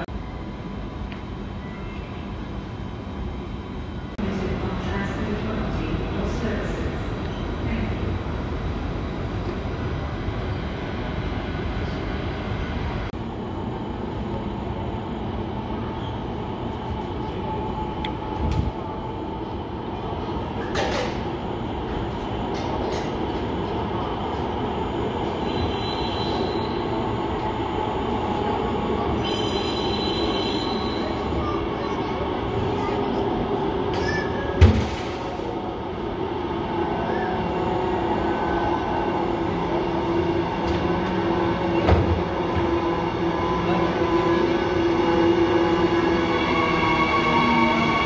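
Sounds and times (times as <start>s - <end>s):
train approaching from tunnel: 0.0s - 48.0s.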